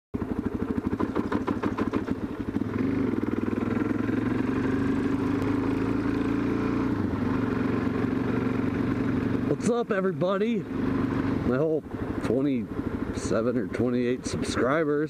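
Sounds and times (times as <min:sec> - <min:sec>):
motorcycle engine running: 0:00.2 - 0:15.0.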